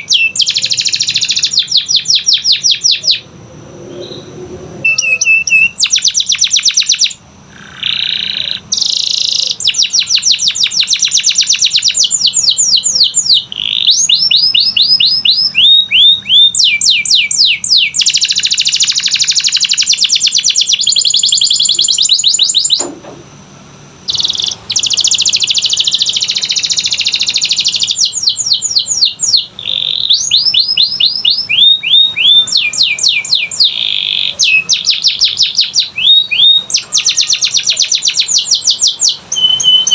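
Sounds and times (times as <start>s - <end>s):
canary singing trills: 0.0s - 22.9s, 24.0s - 39.9s.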